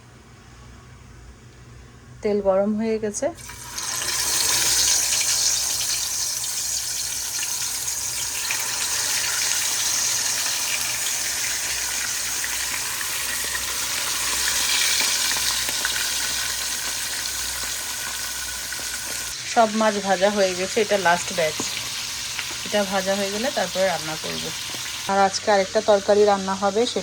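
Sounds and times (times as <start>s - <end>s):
fish frying in hot oil: 3.4s - 27.0s.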